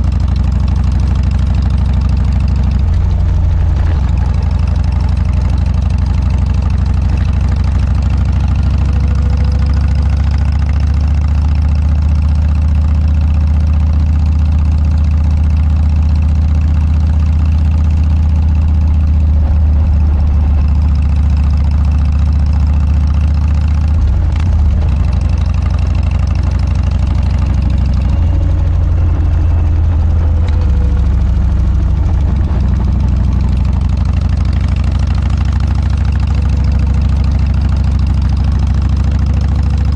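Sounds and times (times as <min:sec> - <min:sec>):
motorcycle engine deep exhaust: 0:00.0 - 0:39.9.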